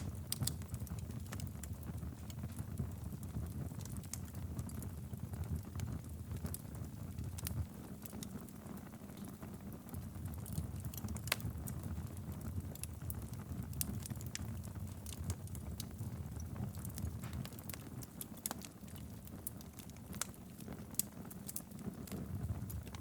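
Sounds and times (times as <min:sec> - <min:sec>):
fire crackling and popping: 0:00.0 - 0:23.0
flames rumbling: 0:00.0 - 0:23.0.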